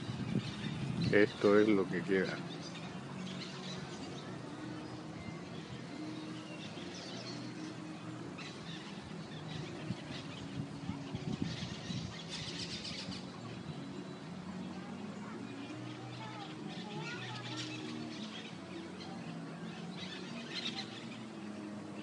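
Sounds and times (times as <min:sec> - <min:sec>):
birds chirping: 0:00.0 - 0:22.0
outdoor background hiss: 0:00.0 - 0:22.0.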